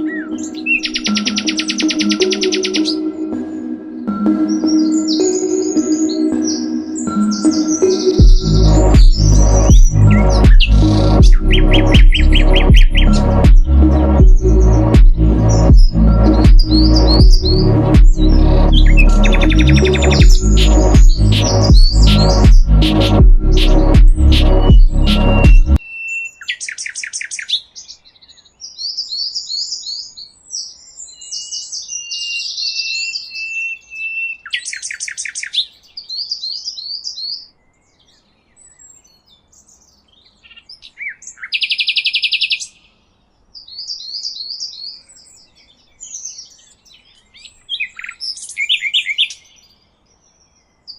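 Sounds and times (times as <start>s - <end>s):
songbird singing trills: 0.0s - 50.9s.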